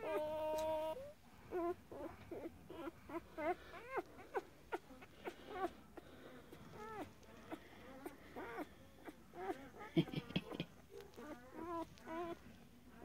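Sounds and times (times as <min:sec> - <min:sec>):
puppies squeaking and whimpering: 0:00.0 - 0:13.0.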